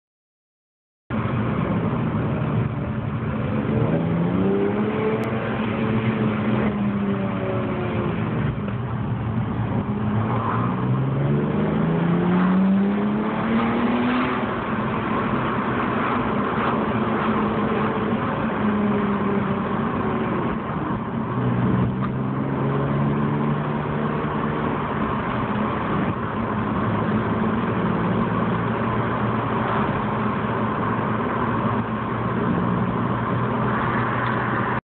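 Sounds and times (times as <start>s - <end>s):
car engine revving: 2.5s - 34.8s.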